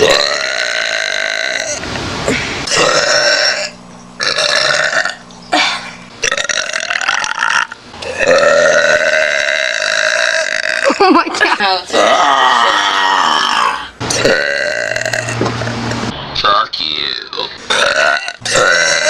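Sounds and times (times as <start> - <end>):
person burping loudly: 0.0 - 11.2, 11.9 - 15.7, 17.7 - 19.0.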